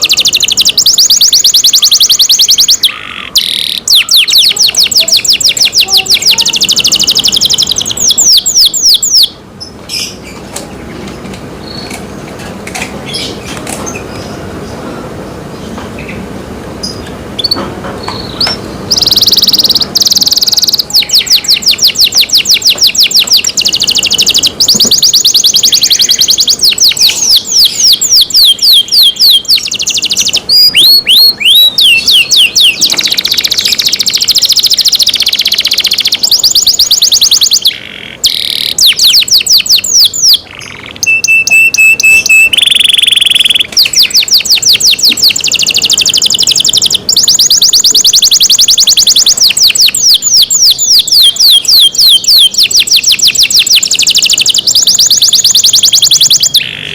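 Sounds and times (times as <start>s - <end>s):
canary singing trills: 0.0s - 11.0s, 13.0s - 56.9s.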